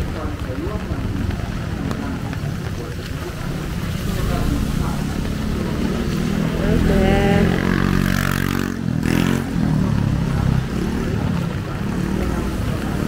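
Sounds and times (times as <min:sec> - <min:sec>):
motorcycles passing: 0:00.0 - 0:13.0
rain hiss on wet road: 0:00.0 - 0:13.0.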